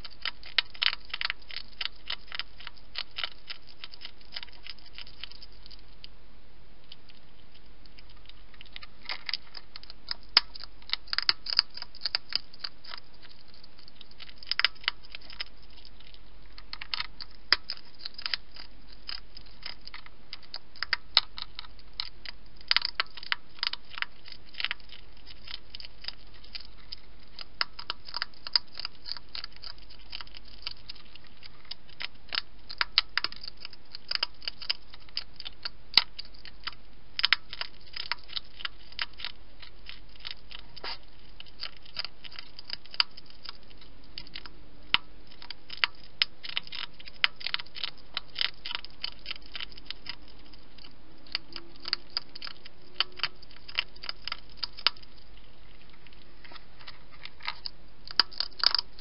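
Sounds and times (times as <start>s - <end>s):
hedgehog chewing clicks: 0.0s - 6.1s, 6.8s - 59.0s.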